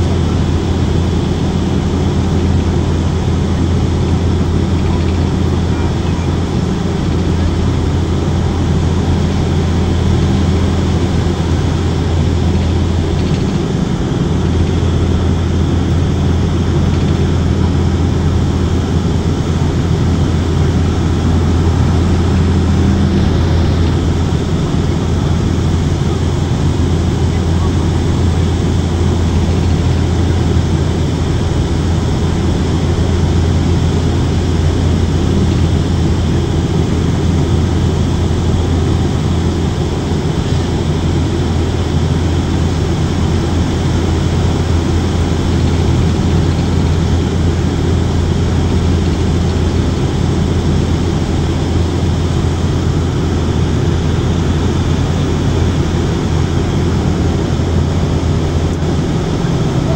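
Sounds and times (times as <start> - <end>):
propeller engines humming: 0.0 - 59.9
rush of air in cabin: 0.0 - 59.9.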